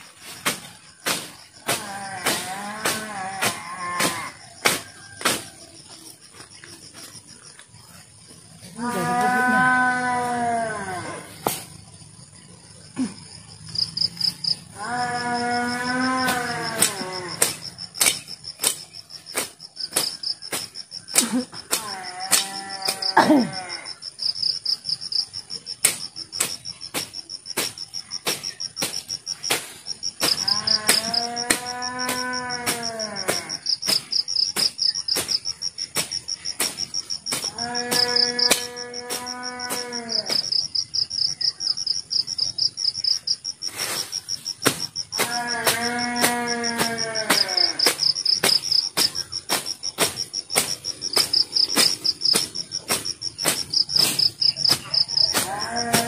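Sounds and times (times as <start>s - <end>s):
crickets chirping: 0.0s - 56.0s
insects trilling: 0.0s - 56.0s.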